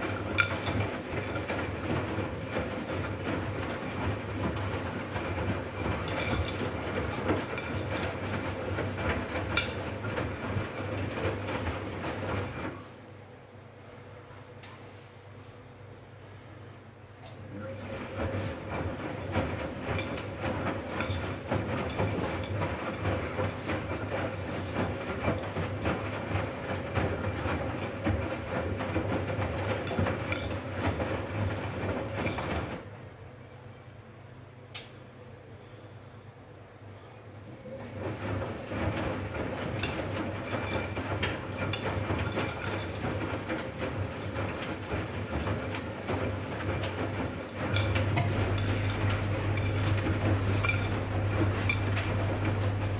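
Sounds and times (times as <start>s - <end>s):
laundry clicking and knocking: 0.0s - 12.8s, 17.3s - 32.9s, 37.9s - 52.9s
washing machine motor humming: 0.0s - 52.9s.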